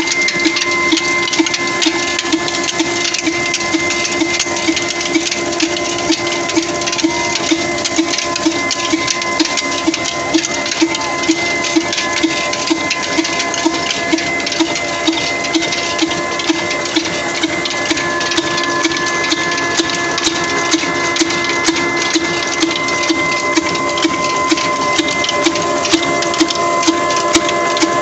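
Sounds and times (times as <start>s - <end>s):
flour mill whine: 0.0s - 28.0s
sharp clicks: 0.0s - 28.0s.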